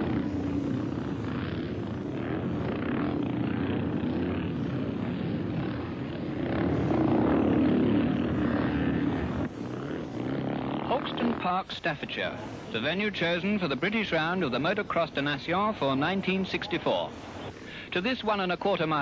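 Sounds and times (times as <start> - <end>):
motorcycle engines droning: 0.0 - 19.0.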